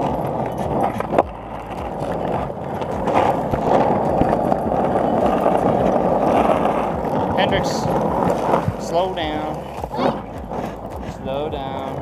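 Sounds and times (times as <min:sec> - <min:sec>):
skateboard wheels rolling on asphalt: 0:00.0 - 0:12.0.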